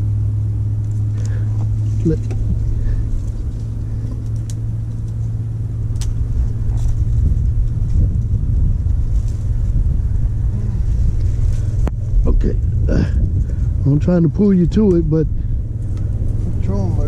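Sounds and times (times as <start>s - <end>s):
electric boat motor humming: 0.0s - 17.0s.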